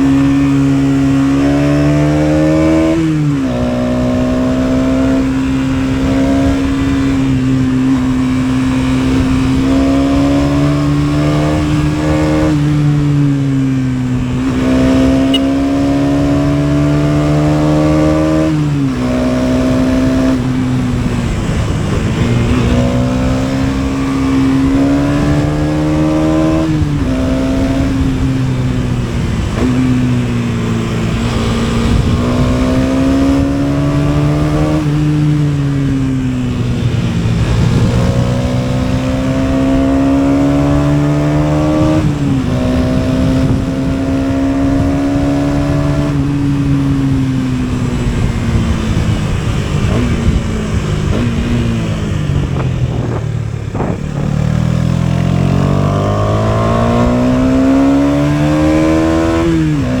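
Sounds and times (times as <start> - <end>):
motorcycle engine accelerating: 0.0 - 60.0
wind noise: 0.0 - 60.0.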